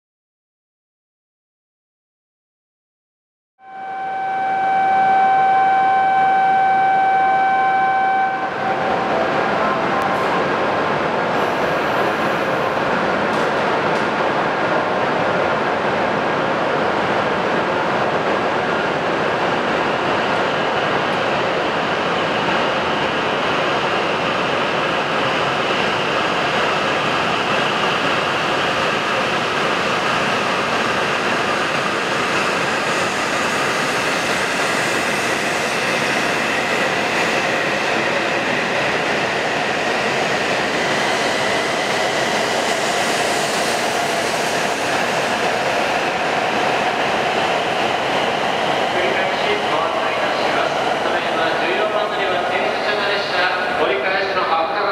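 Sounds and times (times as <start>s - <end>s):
train accelerating with whine: 3.6s - 54.9s.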